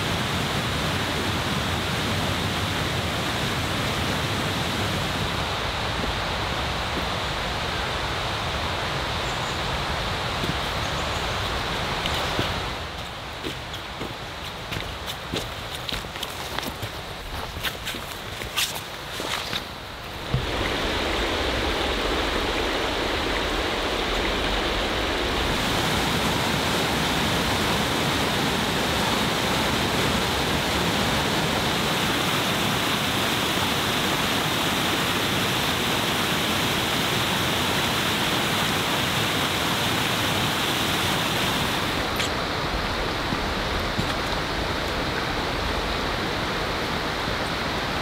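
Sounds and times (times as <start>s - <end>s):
flowing water rushing: 0.0s - 48.0s.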